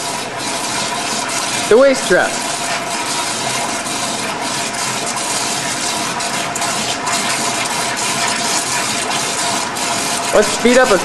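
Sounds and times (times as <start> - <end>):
rushing tap water hiss: 0.0 - 11.0.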